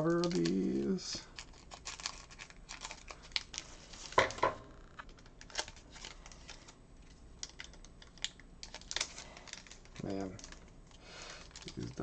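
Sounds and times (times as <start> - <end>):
foil wrapper crinkling: 0.0 - 4.4, 5.0 - 12.0.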